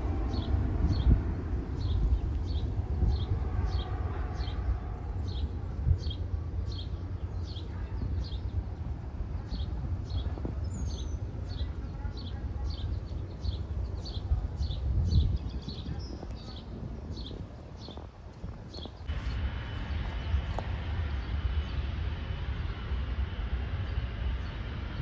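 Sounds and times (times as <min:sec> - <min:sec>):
jet airliner rumble: 0:00.0 - 0:25.0.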